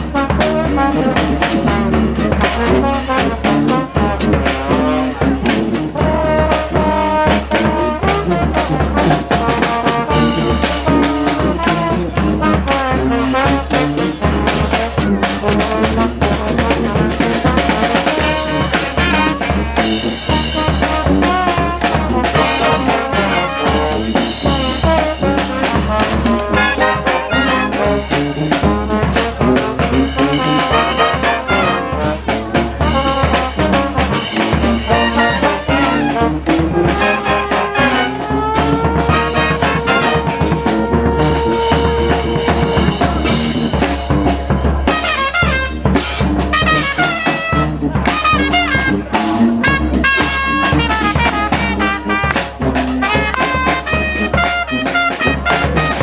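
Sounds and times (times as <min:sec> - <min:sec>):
brass band playing: 0:00.0 - 0:56.0
marching drums: 0:00.0 - 0:56.0.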